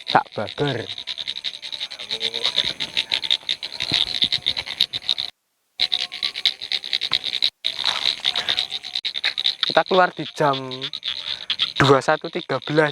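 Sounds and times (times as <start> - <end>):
frogs croaking chorus: 0.0 - 12.9.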